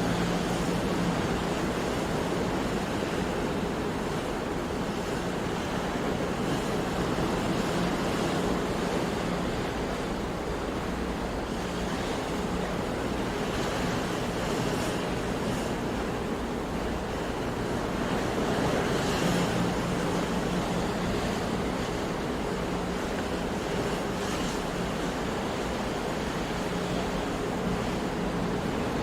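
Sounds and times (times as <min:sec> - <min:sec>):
waves breaking on shore: 0:00.0 - 0:29.0.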